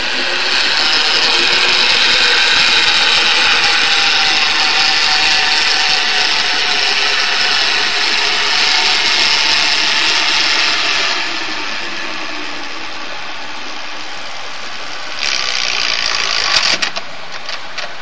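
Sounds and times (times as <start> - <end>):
boat engine underwater hiss: 0.0 - 16.7.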